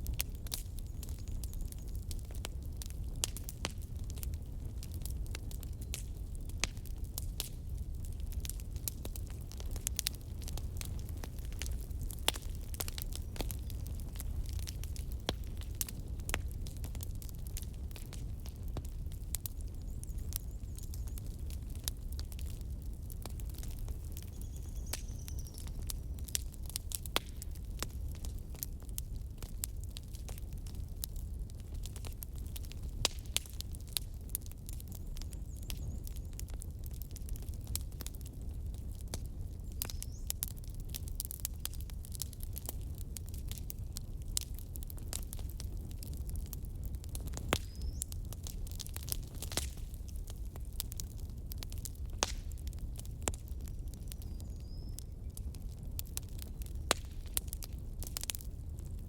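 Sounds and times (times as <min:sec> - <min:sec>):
bonfire crackling: 0:00.0 - 0:59.0
burning wood popping: 0:00.0 - 0:59.0
low rumble of fire: 0:00.0 - 0:59.0.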